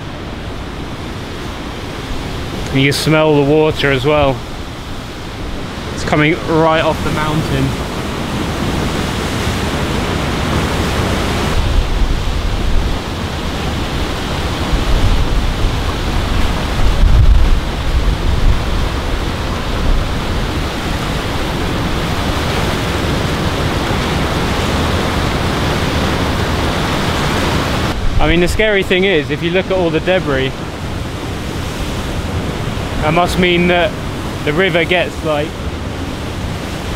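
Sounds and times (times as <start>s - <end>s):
whitewater rapids rushing: 0.0s - 36.9s.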